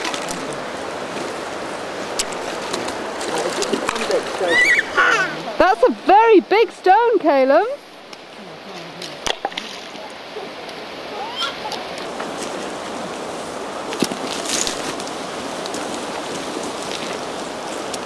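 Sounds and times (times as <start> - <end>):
shallow river rushing: 0.0 - 18.0.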